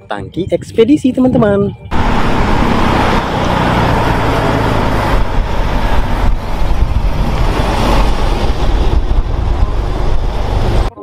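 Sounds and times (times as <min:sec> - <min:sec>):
truck diesel engine rumbling: 0:01.3 - 0:11.0.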